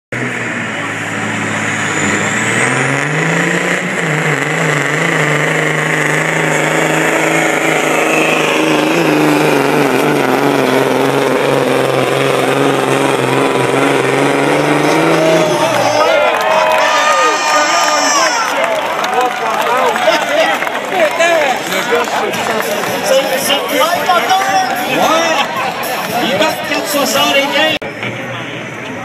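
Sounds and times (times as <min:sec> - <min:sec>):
truck diesel engine under load: 0:00.1 - 0:29.0.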